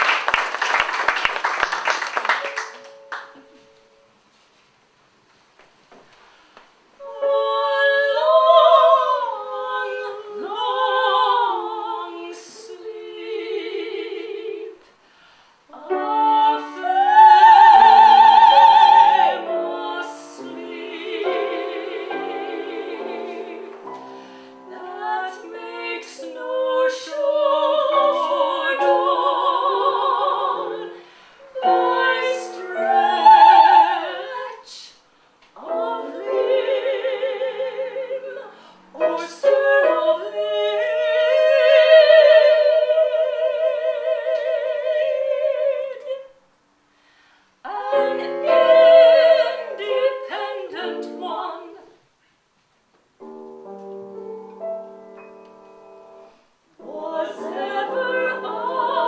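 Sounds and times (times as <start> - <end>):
two women singing operatic duet: 7.0 - 46.4, 47.6 - 52.0, 54.5 - 59.0.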